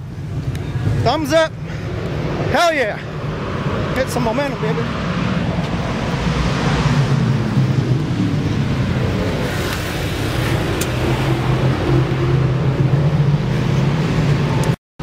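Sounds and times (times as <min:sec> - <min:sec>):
race car engines droning: 0:00.0 - 0:14.8.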